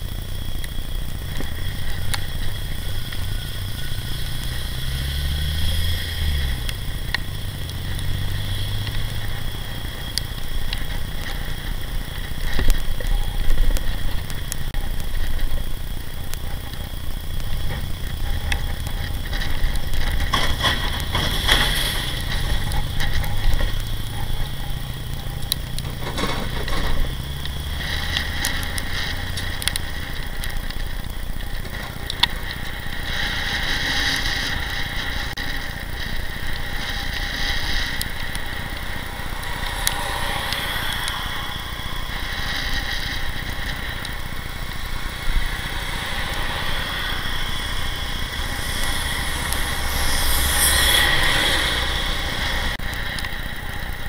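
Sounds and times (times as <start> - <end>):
vehicles passing close: 0.0 - 54.0
wind and road noise: 0.0 - 54.0.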